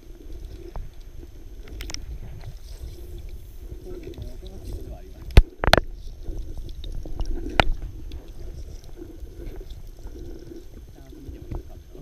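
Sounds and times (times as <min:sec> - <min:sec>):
underwater rumble: 0:00.0 - 0:12.0.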